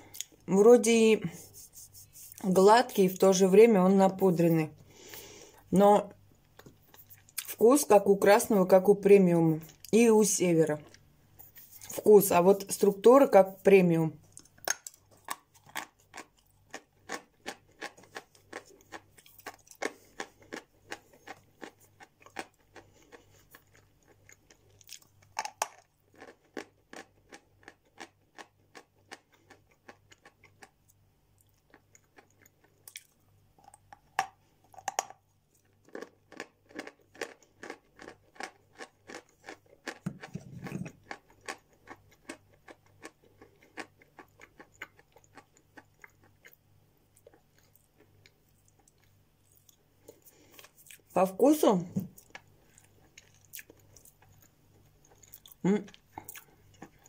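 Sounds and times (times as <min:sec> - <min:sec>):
person chewing dry crunches: 0:00.0 - 0:00.5, 0:04.8 - 0:07.7, 0:10.7 - 0:12.1, 0:14.2 - 0:51.2, 0:52.1 - 0:57.0.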